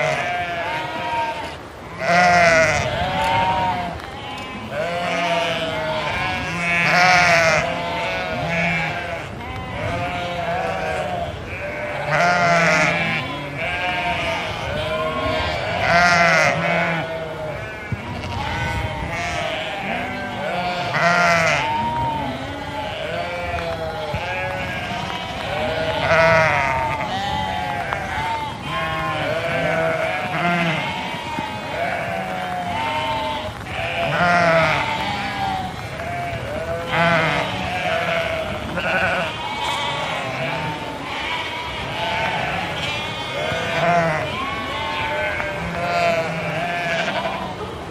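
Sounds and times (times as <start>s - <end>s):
flock of sheep bleating: 0.0s - 47.9s.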